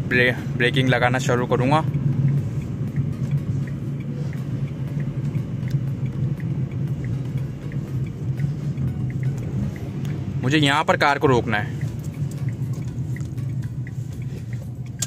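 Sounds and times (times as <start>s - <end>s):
car engine and tyres rumbling: 0.0s - 15.0s
hazard indicators ticking: 0.0s - 15.0s.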